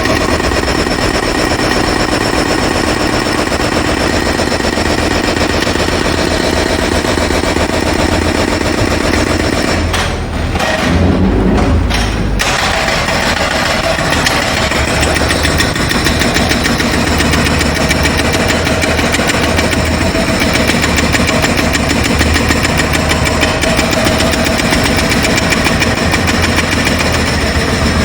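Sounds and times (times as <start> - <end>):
jackhammer breaking ground: 0.0 - 11.2, 11.8 - 28.0.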